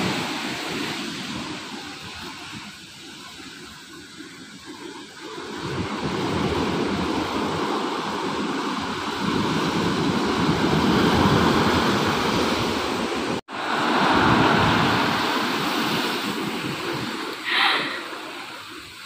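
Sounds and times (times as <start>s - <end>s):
ocean surf on beach and rocks: 0.0s - 19.0s.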